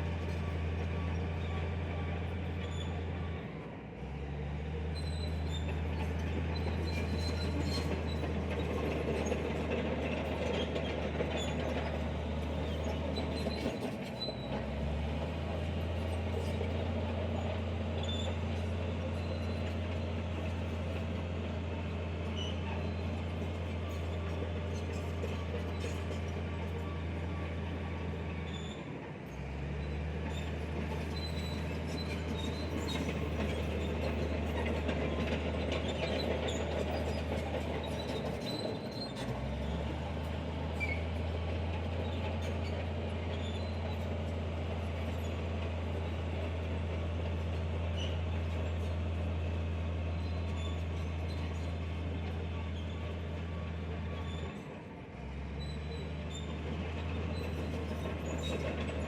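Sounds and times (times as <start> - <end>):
heavy diesel engine drone: 0.0 - 59.0
metal crawler tracks clanking: 5.0 - 59.0.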